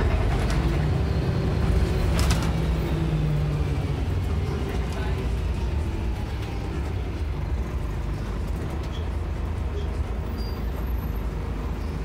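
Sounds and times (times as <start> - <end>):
bus diesel engine rumble: 0.0 - 12.0
road noise: 0.0 - 12.0.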